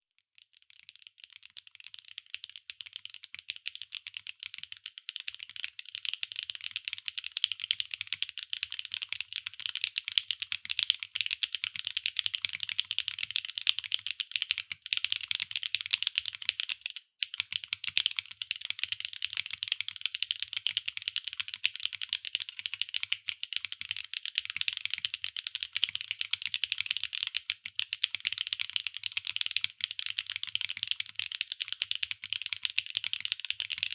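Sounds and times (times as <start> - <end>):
fast typing on mechanical keyboard: 0.6 - 33.9.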